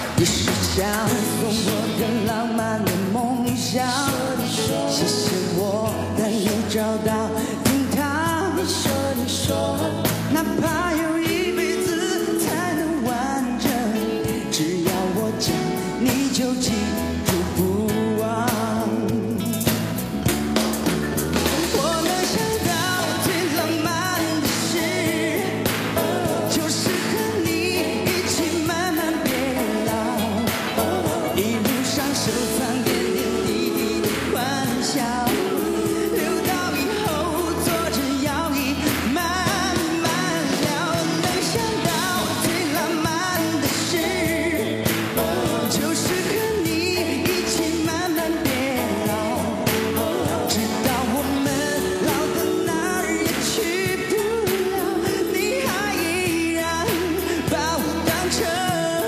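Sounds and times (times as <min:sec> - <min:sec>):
live band: 0:00.0 - 0:59.0
man singing pop ballad: 0:00.0 - 0:59.0
steady drum beat: 0:00.0 - 0:59.0.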